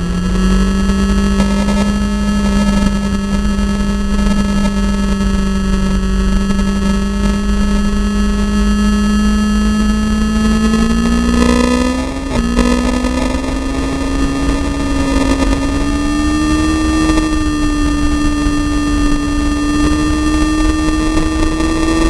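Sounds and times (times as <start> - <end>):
vehicle engine at high revs: 0.0 - 22.0
wind noise on microphone: 0.0 - 22.0.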